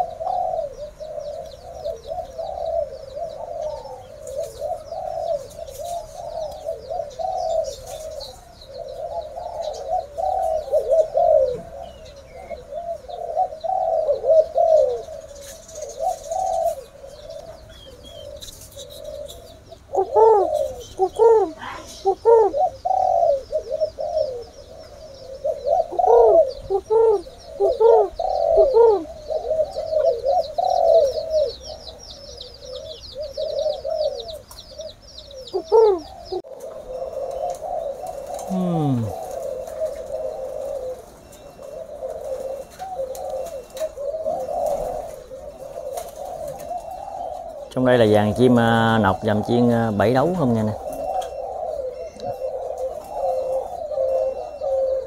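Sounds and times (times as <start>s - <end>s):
doves cooing: 0.0s - 55.0s
nearer dove cooing loudly: 0.0s - 55.0s.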